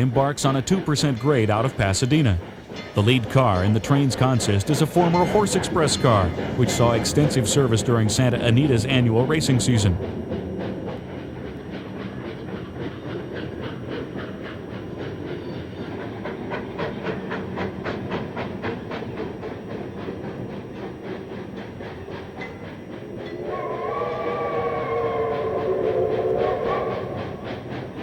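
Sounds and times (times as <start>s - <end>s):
steam locomotive exhaust beating: 0.0s - 28.0s.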